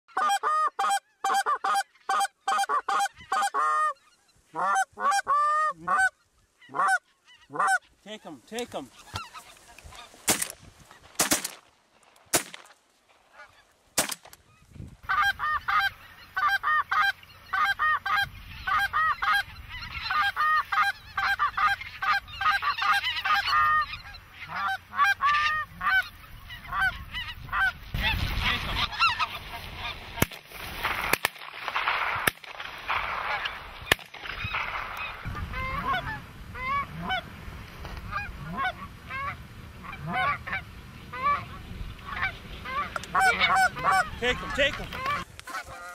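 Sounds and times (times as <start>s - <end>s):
geese honking: 0.1s - 11.2s, 13.3s - 45.9s.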